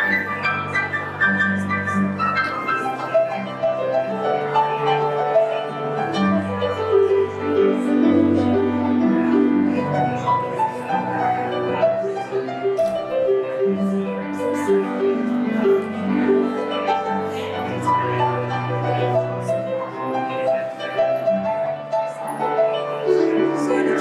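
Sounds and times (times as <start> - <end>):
piano-like keyboard music: 0.0 - 24.0.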